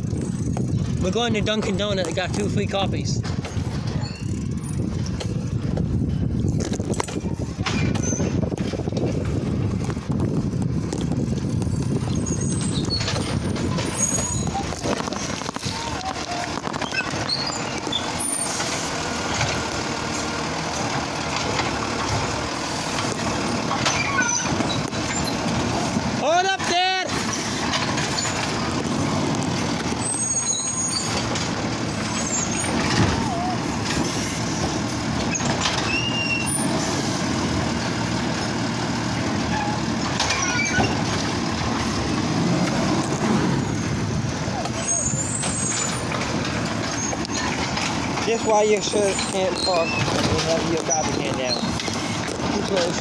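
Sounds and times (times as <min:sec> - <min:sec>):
garbage truck engine running: 0:00.0 - 0:53.0
high squeaks: 0:03.4 - 0:05.5, 0:06.9 - 0:09.4, 0:10.3 - 0:20.6, 0:22.6 - 0:26.0, 0:27.1 - 0:38.5, 0:39.4 - 0:53.0.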